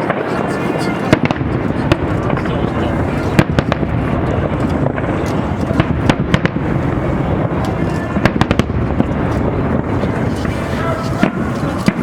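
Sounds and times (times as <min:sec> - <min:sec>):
fireworks cracking and popping: 0:00.0 - 0:12.0
fireworks rumbling: 0:00.0 - 0:12.0.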